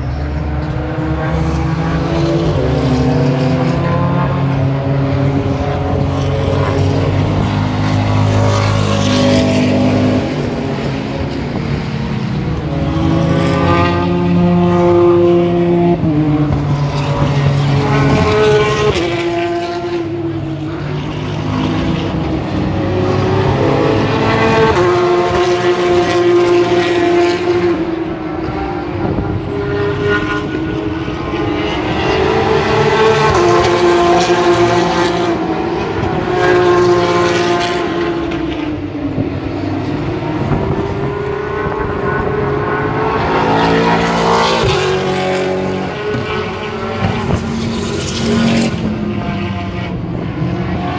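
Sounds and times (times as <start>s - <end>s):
racing car engines passing: 0.0s - 50.9s.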